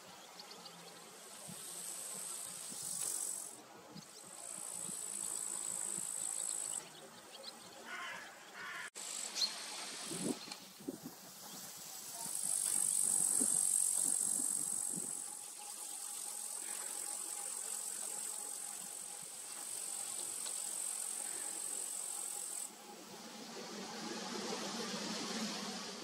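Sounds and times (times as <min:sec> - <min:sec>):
insects chirring: 0:01.0 - 0:06.8, 0:07.8 - 0:25.8.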